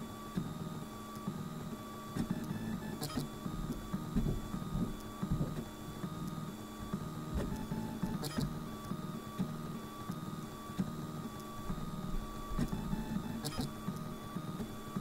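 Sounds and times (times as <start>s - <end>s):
printer stepper motors humming: 0.0s - 15.0s.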